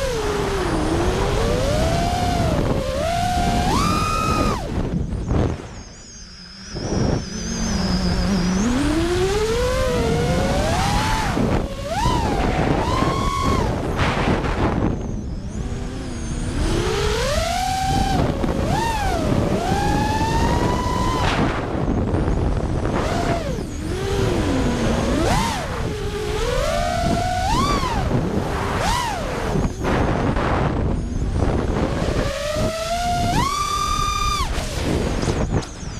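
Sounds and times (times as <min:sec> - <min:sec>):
drone motors whining: 0:00.0 - 0:35.9
wind buffeting microphone: 0:00.0 - 0:35.9.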